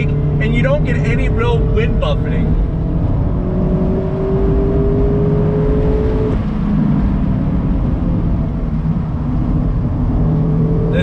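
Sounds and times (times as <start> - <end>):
low road noise: 0.0 - 11.0.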